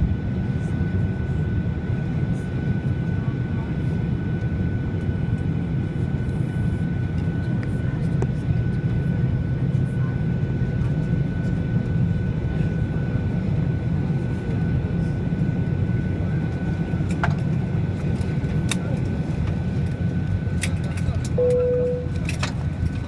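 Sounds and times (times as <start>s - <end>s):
aircraft cabin rumble and whine: 0.0s - 23.0s.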